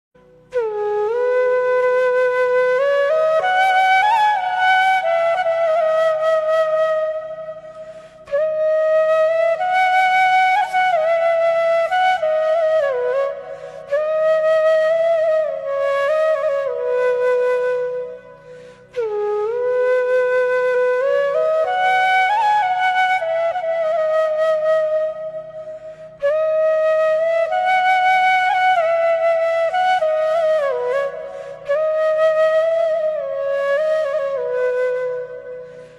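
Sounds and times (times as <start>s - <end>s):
flute playing slow melody: 0.2s - 35.9s.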